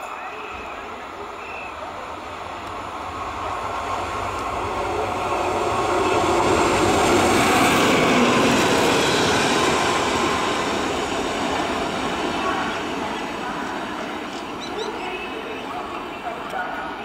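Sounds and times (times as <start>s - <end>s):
train wheels on rails passing: 0.0s - 17.0s.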